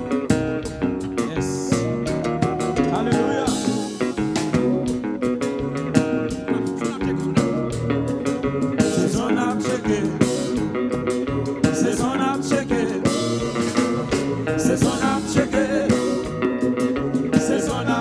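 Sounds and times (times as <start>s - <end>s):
band playing upbeat groove: 0.0s - 18.0s
person singing: 0.0s - 18.0s.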